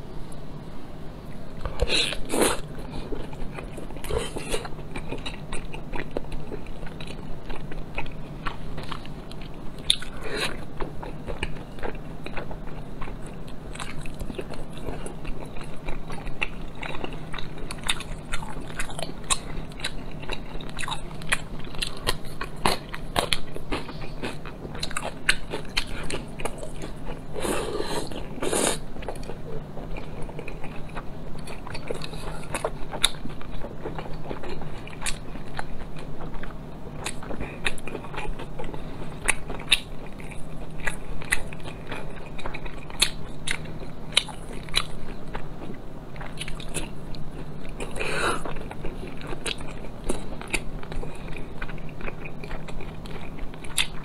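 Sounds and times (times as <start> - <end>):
low steady hum: 0.0 - 54.0
chewing and mouth clicks: 1.6 - 54.0.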